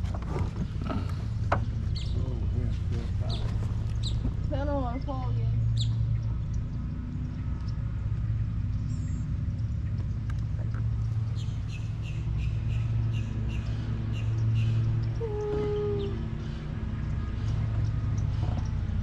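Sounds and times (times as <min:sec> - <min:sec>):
boat motor running: 0:00.0 - 0:19.0
birds chirping: 0:00.3 - 0:19.0.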